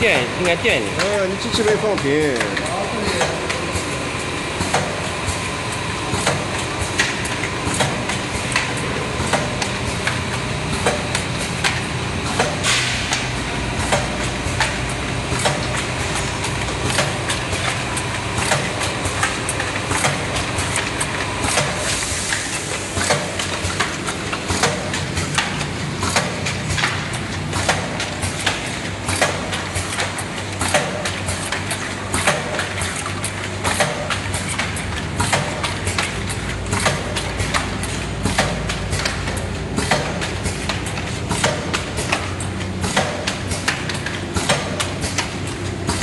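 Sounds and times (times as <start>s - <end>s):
machine mechanical noise: 0.0s - 46.0s
machine pushers clacking: 0.0s - 46.0s.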